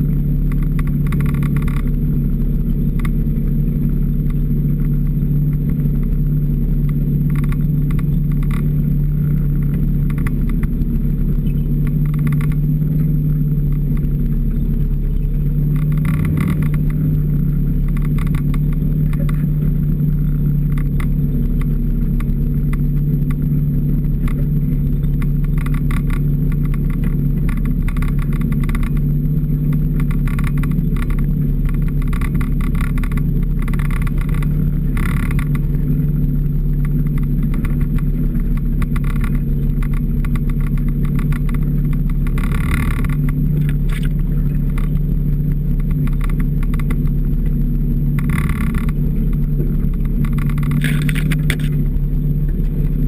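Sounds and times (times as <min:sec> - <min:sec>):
rattling over trail: 0:00.0 - 0:53.0
snowmobile engine droning: 0:00.0 - 0:53.0.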